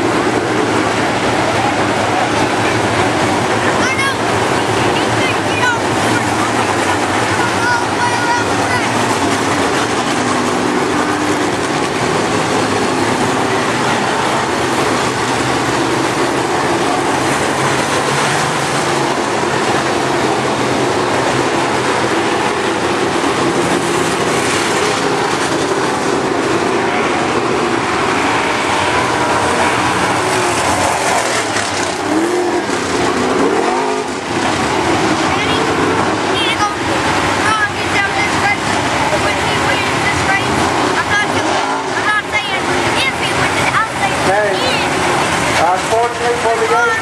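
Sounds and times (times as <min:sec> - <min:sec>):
race car engines roaring: 0:00.0 - 0:47.0
race car passing close: 0:00.0 - 0:47.0.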